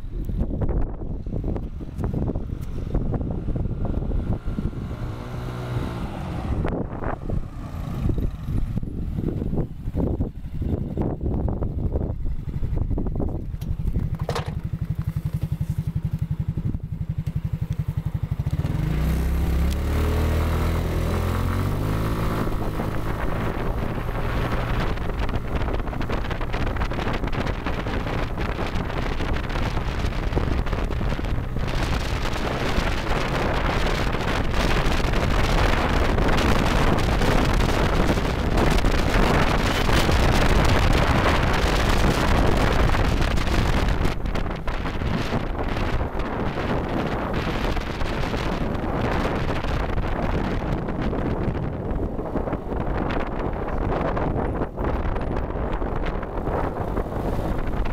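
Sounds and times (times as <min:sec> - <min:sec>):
buggy engine idling and revving: 0:00.0 - 0:57.9
wind and road noise: 0:00.0 - 0:57.9.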